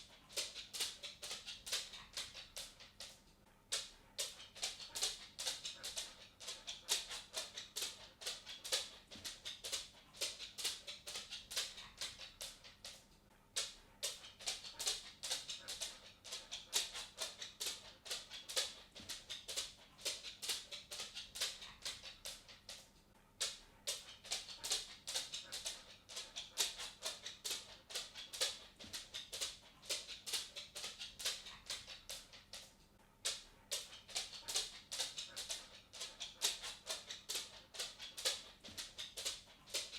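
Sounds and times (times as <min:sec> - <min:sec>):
cat footsteps clicking: 0:00.0 - 0:39.9.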